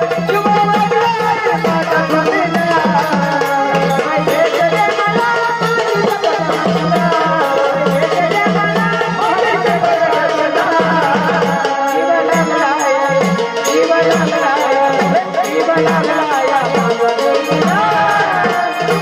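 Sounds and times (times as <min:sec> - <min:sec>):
rattling jingling percussion: 0:00.0 - 0:19.0
steady drum rhythm: 0:00.0 - 0:19.0.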